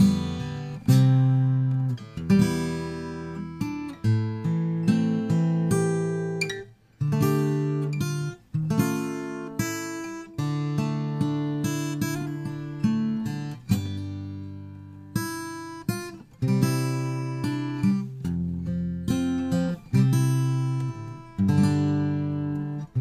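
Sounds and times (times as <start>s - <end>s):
acoustic guitar chords strummed: 0.0s - 23.0s.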